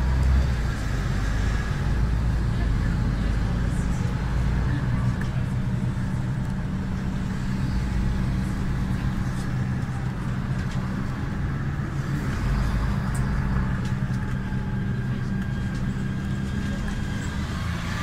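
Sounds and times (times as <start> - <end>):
bus engine hum: 0.0 - 18.0
road and tyre noise: 0.0 - 18.0.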